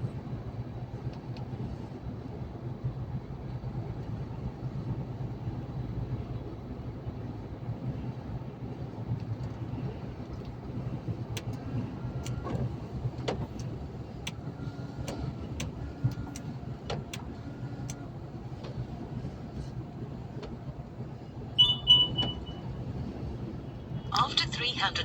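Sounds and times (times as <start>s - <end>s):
truck engine and road drone: 0.0s - 25.0s.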